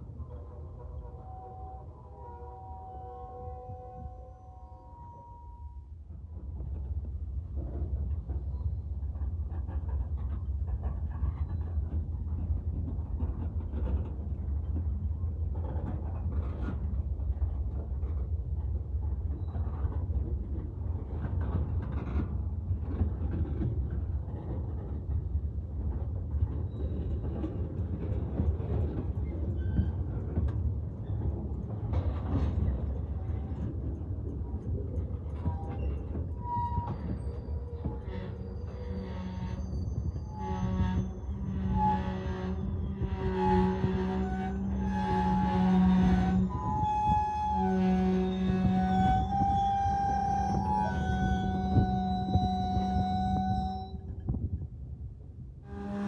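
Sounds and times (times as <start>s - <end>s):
train wheels rumbling on track: 0.0s - 56.0s
train cars clanking: 6.1s - 54.6s.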